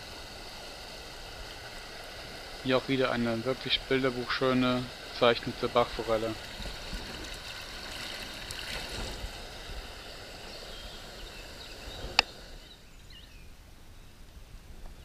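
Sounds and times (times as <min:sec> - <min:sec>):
river water running over a riffle: 0:00.0 - 0:12.9.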